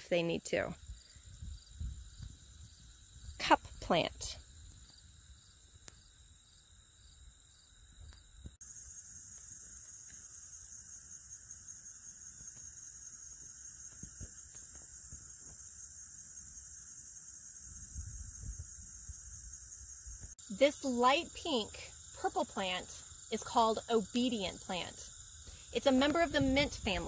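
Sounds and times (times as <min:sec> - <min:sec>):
crickets trilling: 0:00.0 - 0:27.0
faint pulsing insect call: 0:00.0 - 0:27.0.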